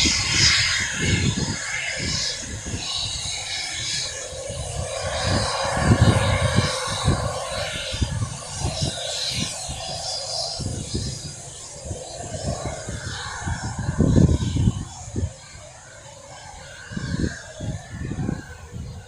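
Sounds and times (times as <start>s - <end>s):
jet engines hissing and whining: 0.0s - 19.0s
wind buffeting microphone: 0.0s - 19.0s.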